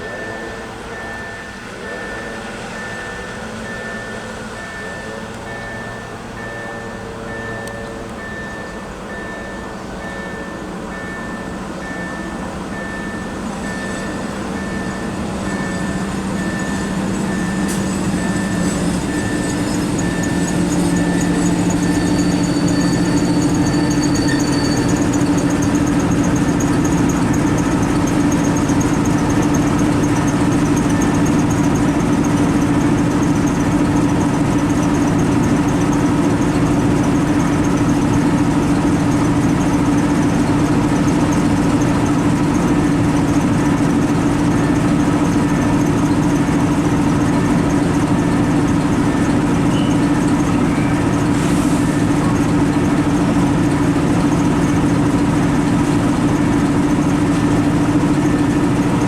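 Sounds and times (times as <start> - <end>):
diesel train engine humming: 0.0 - 59.0.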